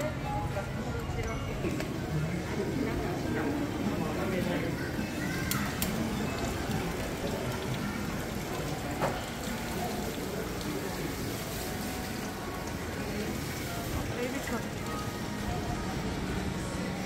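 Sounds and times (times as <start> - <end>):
faint indistinct chatter: 0.0 - 17.0.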